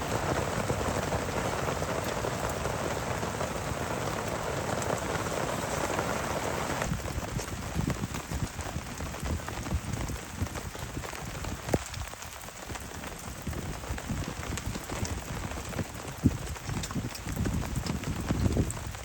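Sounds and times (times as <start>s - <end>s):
heavy rain on a surface: 0.0s - 19.0s.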